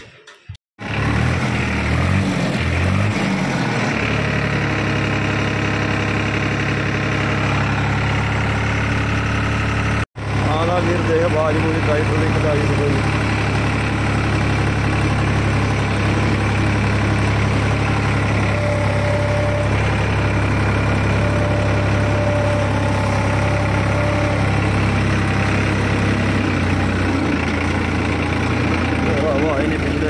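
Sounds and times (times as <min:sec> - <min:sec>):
tractor diesel engine idling: 0:00.8 - 0:30.0.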